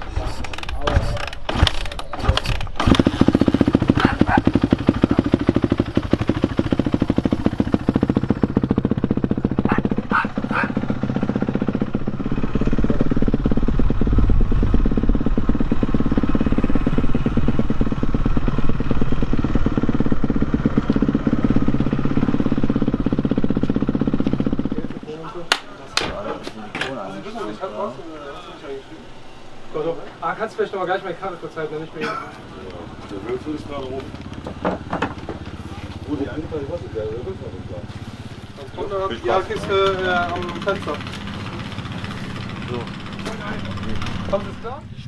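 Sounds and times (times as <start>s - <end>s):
motorcycle engine fast idle: 0.2s - 24.8s, 32.7s - 44.8s.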